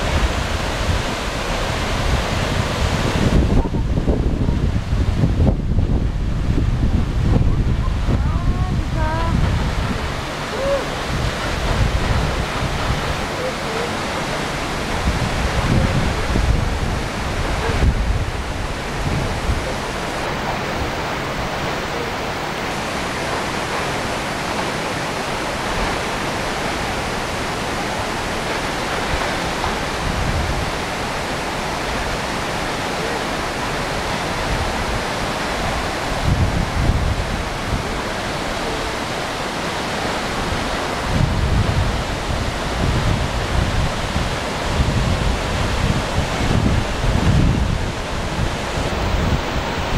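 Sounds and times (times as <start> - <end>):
waterfall roaring: 0.0 - 49.9
wind buffeting microphone: 0.0 - 49.9.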